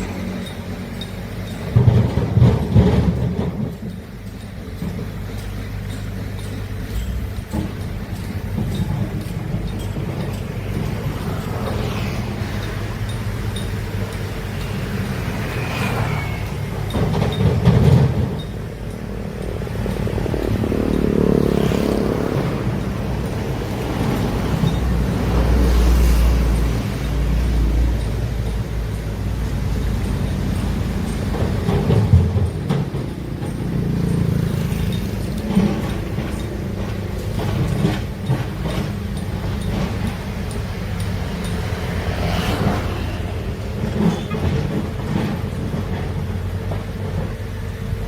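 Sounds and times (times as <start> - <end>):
heavy diesel machinery rumbling: 0.0 - 48.0.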